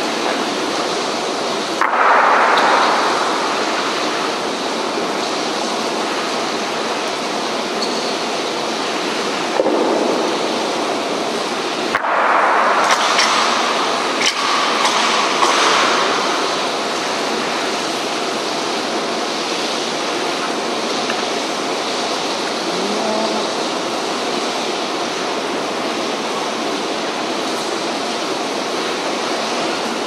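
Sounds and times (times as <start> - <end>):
heavy rain hiss: 0.0 - 30.0.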